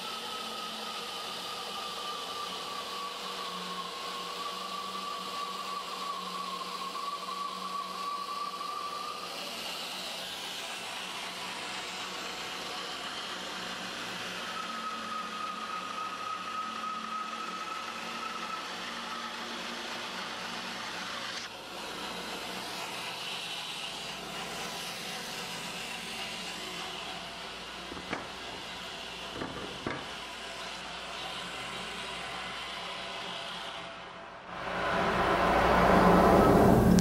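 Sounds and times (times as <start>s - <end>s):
bandsaw running: 0.0s - 37.0s
saw blade high whine: 0.0s - 37.0s.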